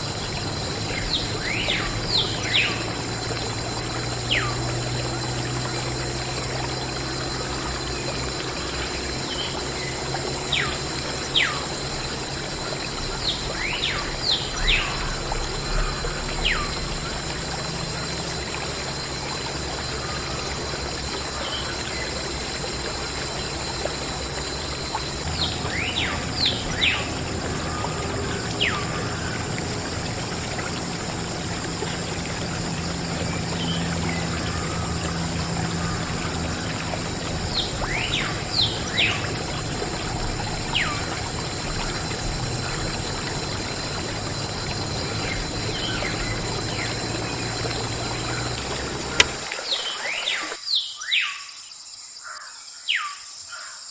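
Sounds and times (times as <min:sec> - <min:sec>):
birds chirping: 0:00.0 - 0:50.6
low steady hum: 0:00.0 - 0:50.6
water pouring and trickling: 0:00.0 - 0:50.6.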